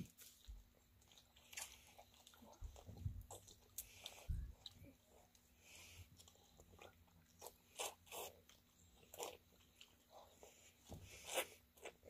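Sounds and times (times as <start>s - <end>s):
wet chewing and mouth smacks: 0.0s - 12.0s.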